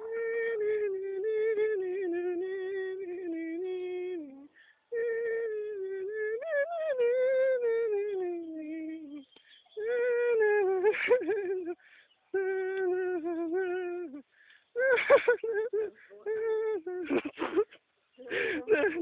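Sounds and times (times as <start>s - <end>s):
high singing-like voice: 0.0s - 19.0s.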